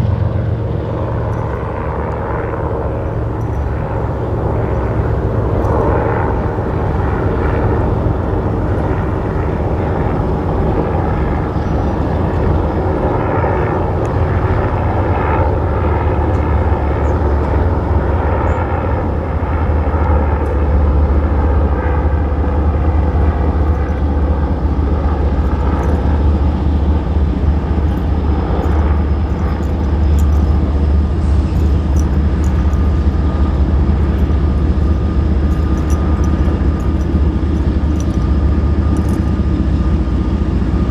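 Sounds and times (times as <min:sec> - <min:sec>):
diesel train passing: 0:00.0 - 0:40.9.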